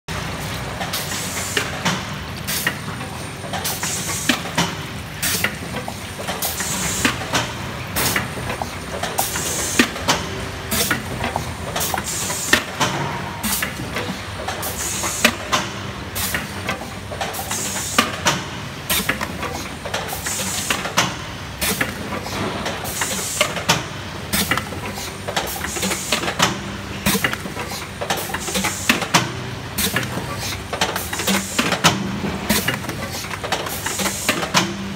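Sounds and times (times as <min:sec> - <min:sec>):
machine clicks and clacks: 0:00.4 - 0:34.9.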